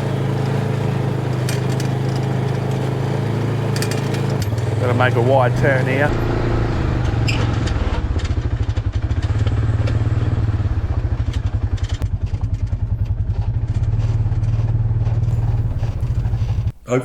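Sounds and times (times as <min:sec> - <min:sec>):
engine running with fast pulse: 0:00.0 - 0:17.0.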